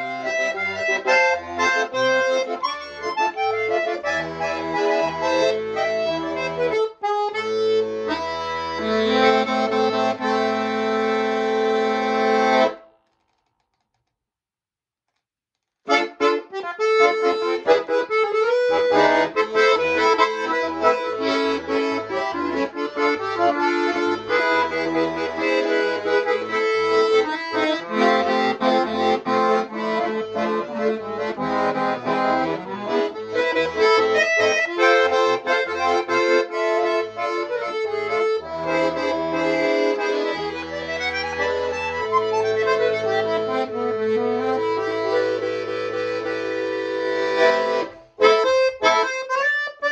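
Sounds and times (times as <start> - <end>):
button accordion melody with bass: 0.0 - 12.9, 15.9 - 49.9.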